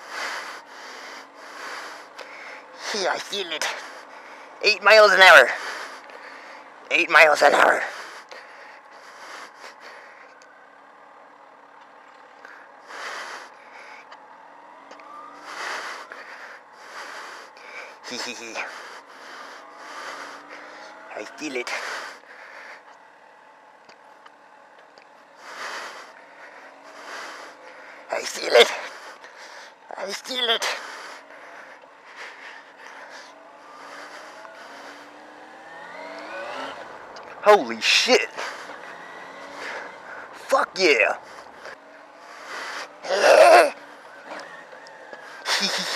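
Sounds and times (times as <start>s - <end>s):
motorcycle engine running: 7.6s - 28.1s, 28.7s - 30.0s, 30.6s - 45.9s.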